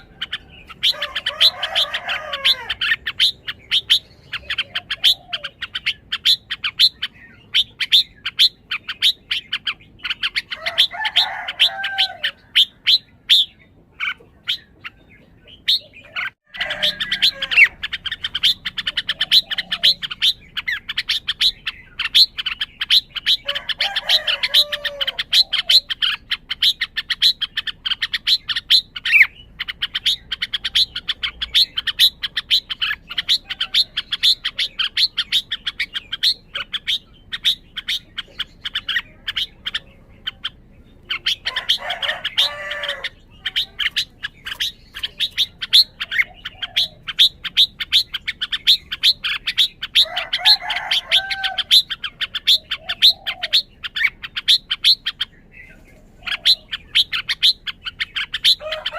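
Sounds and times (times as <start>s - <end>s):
bird warbled song: 0.0s - 58.9s.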